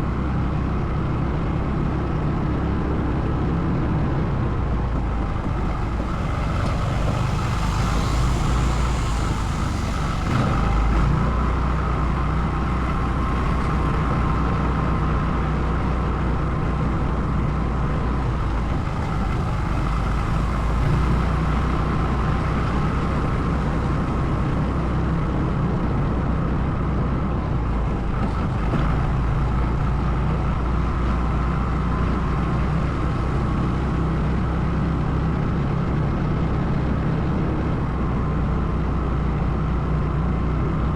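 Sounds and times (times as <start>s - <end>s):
atv engine low rumble: 0.0s - 40.9s.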